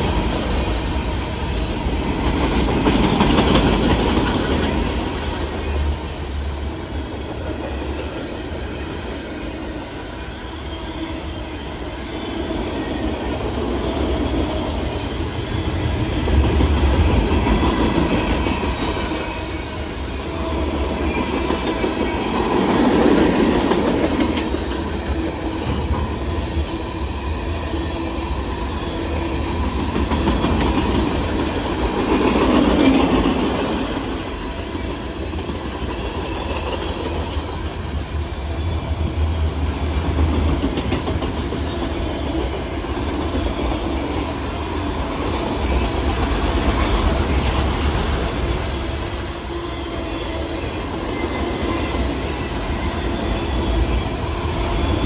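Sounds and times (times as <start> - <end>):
train wheels clattering on rails: 0.0 - 10.4, 11.6 - 55.0.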